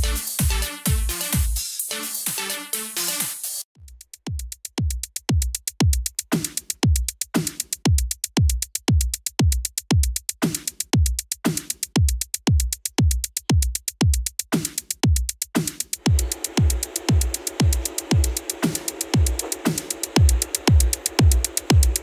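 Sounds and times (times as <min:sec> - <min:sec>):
deep kick drum: 0:00.0 - 0:01.6, 0:03.8 - 0:22.0
electronic music with drum machine: 0:00.0 - 0:22.0
hi-hat ticks: 0:03.5 - 0:22.0.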